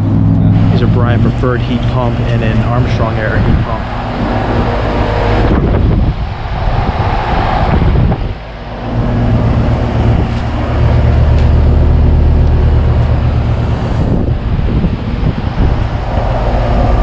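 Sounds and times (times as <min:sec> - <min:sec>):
compressor hum: 0:00.0 - 0:17.0
outdoor fan rushing: 0:00.0 - 0:17.0.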